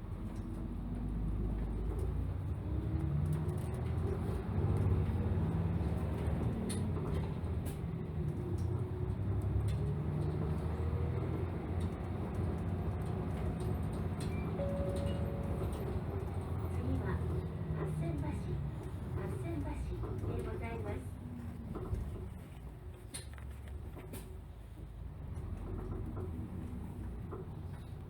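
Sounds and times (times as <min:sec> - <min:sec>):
bus diesel engine accelerating: 0:00.0 - 0:28.0
road rumble: 0:00.0 - 0:28.0.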